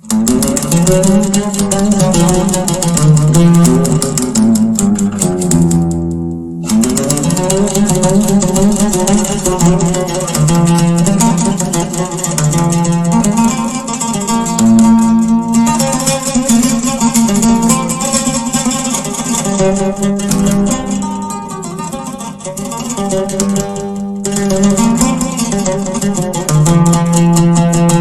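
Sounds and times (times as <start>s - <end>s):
oud melody plucked: 0.0s - 28.0s.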